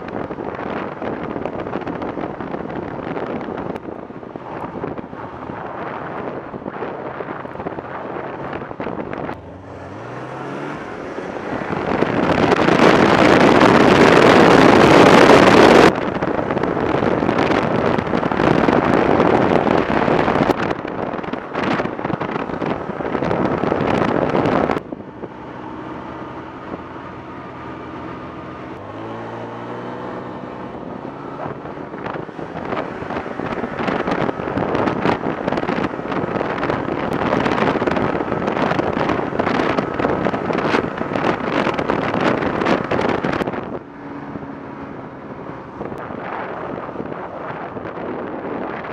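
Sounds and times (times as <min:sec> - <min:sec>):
wind buffeting microphone: 0:00.0 - 0:48.9
snowmobile engine accelerating: 0:09.2 - 0:48.8.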